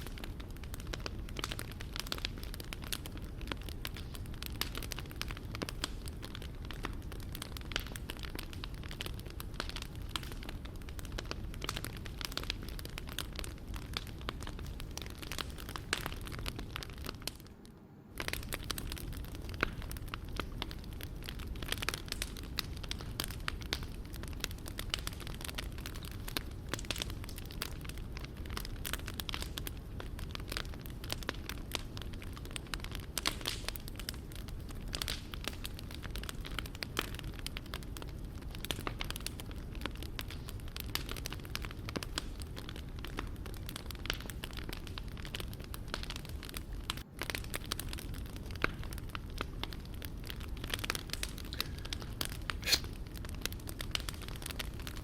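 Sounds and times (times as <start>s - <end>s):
low rumble of flames: 0.0s - 55.0s
wood fire crackling: 0.0s - 55.0s.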